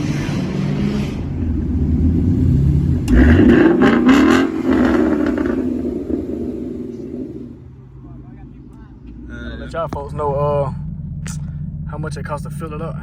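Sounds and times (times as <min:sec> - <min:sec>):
car engine revving loud exhaust: 0:00.0 - 0:08.0, 0:09.0 - 0:13.0.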